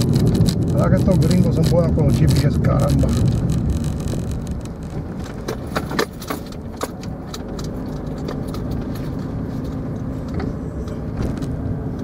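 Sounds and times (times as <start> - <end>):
small metallic clicks and rattles: 0.0 - 10.4
car engine and tyre rumble: 0.0 - 12.0.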